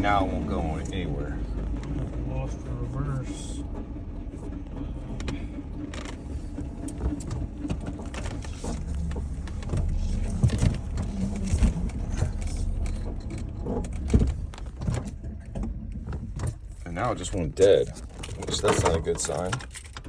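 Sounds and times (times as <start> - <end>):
car engine running: 0.0 - 20.0
knocks and clicks: 3.6 - 20.0.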